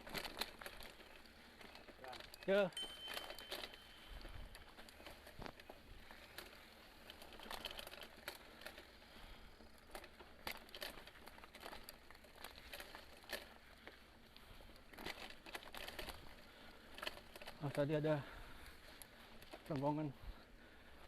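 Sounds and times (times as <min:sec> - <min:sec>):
bike crackling on dirt trail: 0:00.0 - 0:21.0.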